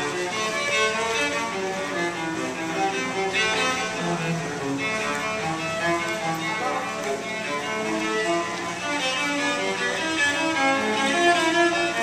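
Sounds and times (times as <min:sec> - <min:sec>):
bowed cello melody: 0:00.0 - 0:12.0.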